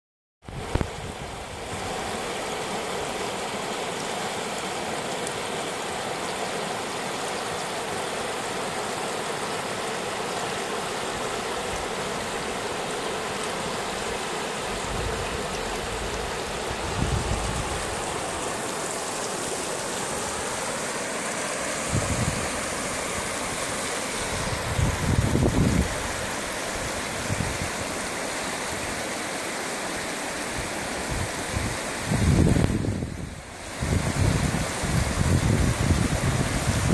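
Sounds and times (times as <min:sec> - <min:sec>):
river water flowing over rocks: 0:00.5 - 0:36.9.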